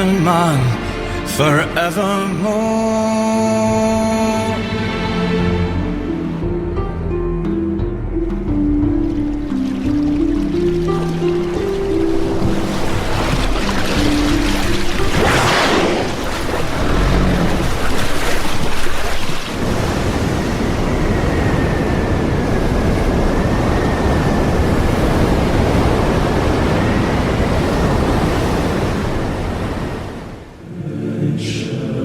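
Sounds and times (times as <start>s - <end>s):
ocean surf washing ashore: 0.0s - 6.4s, 8.5s - 32.0s.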